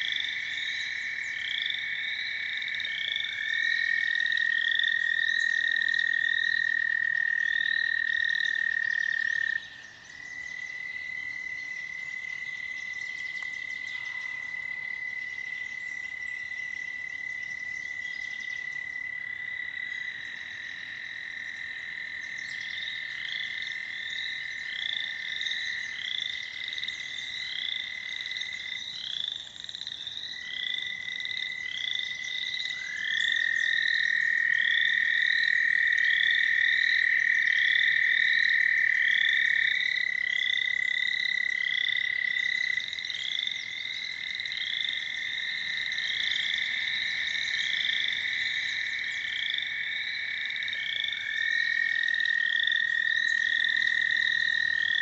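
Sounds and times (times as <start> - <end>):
toads trilling: 0.0 - 55.0.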